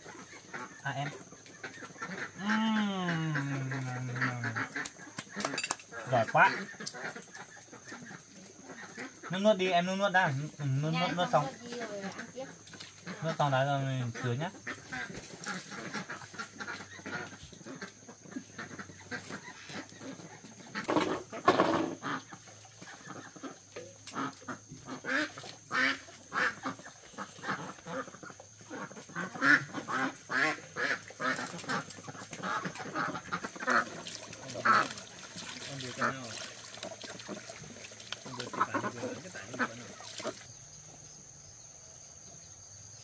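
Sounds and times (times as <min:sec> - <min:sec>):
poultry calling: 0:00.0 - 0:40.6.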